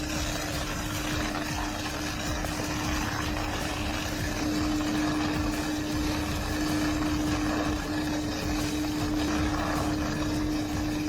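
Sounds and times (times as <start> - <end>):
heavy machinery running: 0.0 - 11.0.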